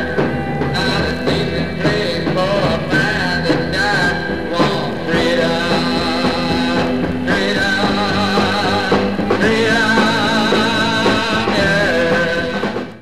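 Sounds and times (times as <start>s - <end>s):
person singing: 0.0s - 13.0s
rock music: 0.0s - 13.0s.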